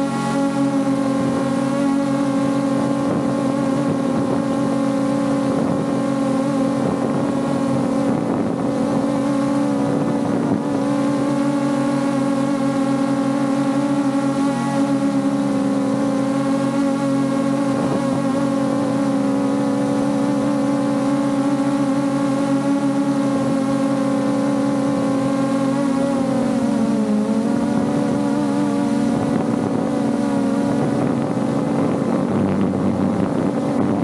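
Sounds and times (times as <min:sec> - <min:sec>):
drone propellers whining: 0:00.0 - 0:34.0
wind noise on microphone: 0:00.0 - 0:34.0.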